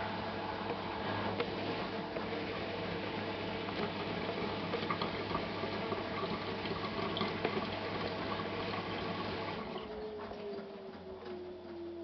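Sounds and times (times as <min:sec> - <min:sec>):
water gurgling down sink drain: 0:00.0 - 0:10.2
low machine hum: 0:00.0 - 0:12.0.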